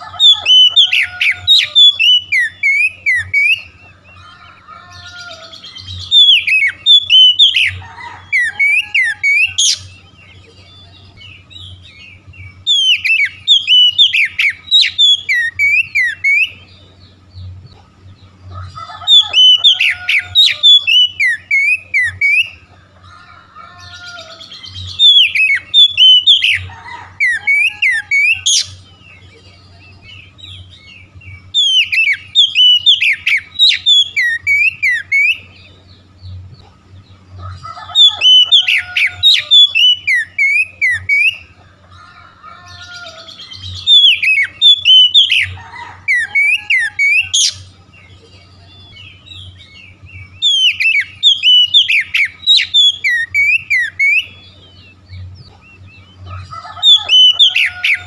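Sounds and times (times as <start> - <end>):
soft bird twittering: 0.0 - 58.0
songbird singing: 0.0 - 58.0.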